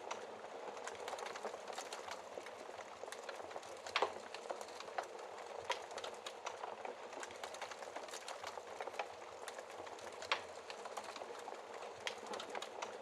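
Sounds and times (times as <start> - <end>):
wood fire crackling in fireplace: 0.0 - 13.0.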